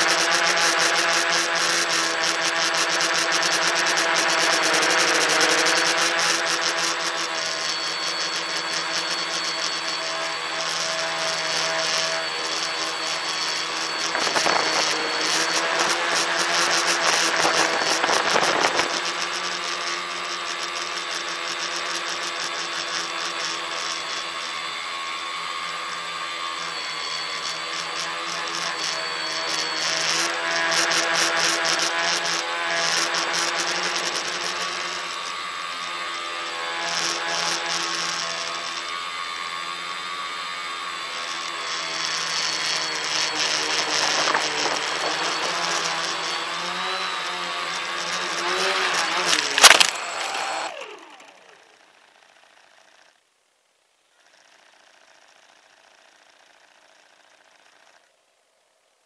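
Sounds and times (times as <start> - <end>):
drone propellers buzzing: 0.0 - 51.9.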